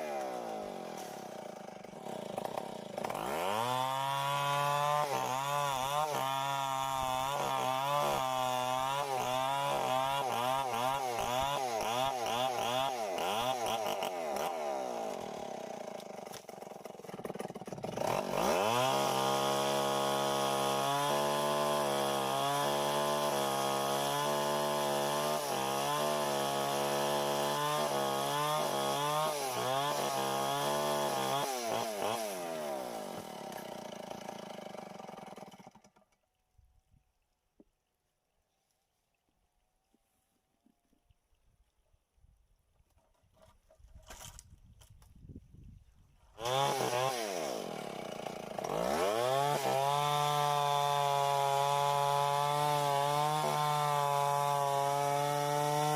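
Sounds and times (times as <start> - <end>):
chainsaw cutting wood: 0.0 - 36.3, 42.9 - 45.3, 46.3 - 55.9.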